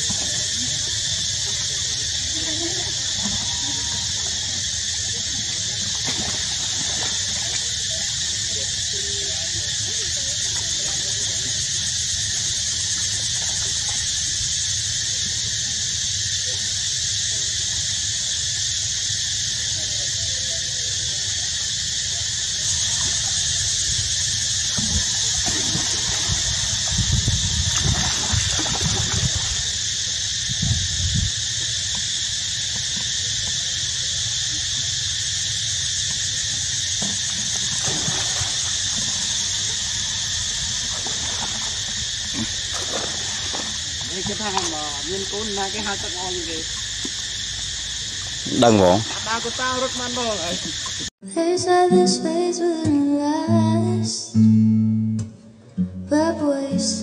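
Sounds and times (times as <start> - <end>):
high-pitched insect chorus: 0.0 - 54.5.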